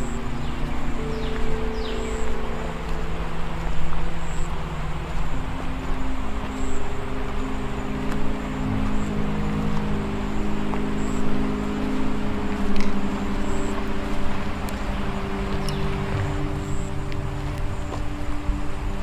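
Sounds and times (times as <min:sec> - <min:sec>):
droning film score pad: 0:00.0 - 0:19.0
steady rushing hiss: 0:00.0 - 0:19.0.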